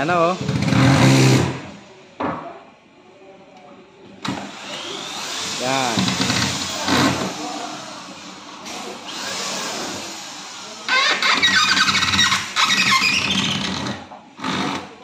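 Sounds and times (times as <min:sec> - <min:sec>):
drill driving screws into wood: 0:00.4 - 0:01.8, 0:04.2 - 0:15.0.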